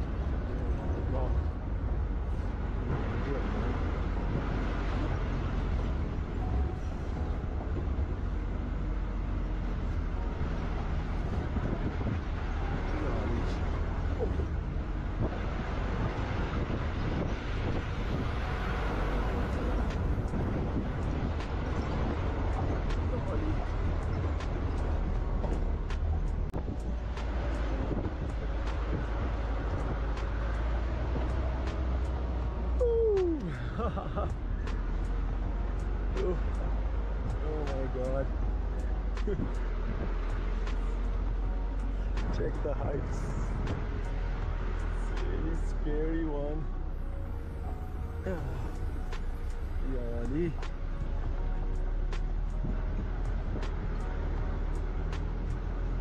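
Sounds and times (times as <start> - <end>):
engine and road rumble: 0.0 - 56.0.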